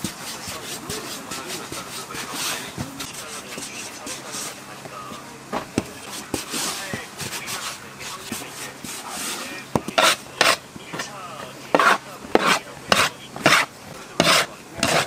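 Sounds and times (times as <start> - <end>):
dough rubbing on wooden board: 0.0 - 15.0.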